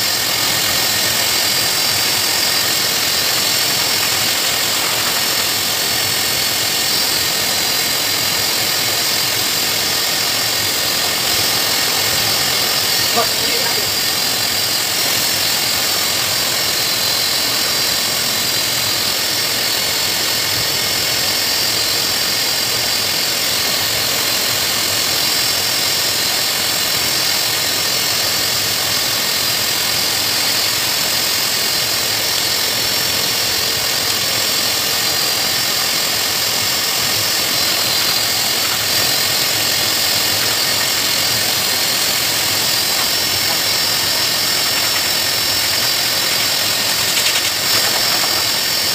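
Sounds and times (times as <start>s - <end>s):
pet grooming blower running: 0.0s - 48.9s.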